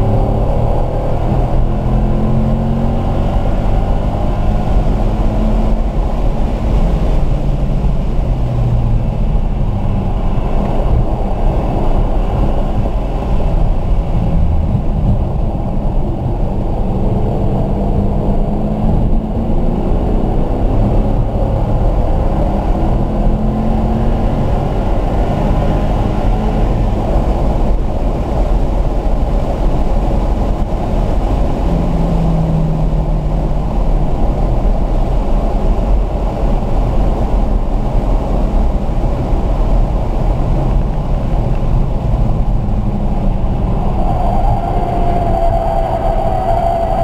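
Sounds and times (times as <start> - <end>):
car engine pulling hard: 0.0 - 47.0
road and wind noise: 0.0 - 47.0.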